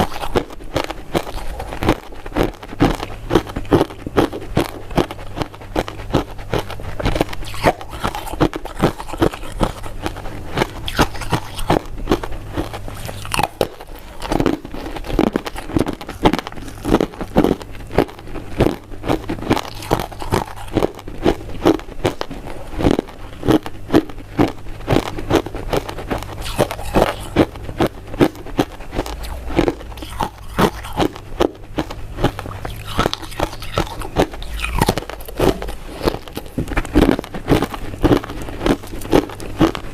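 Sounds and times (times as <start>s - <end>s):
crunching mint sweets: 0.0s - 39.9s.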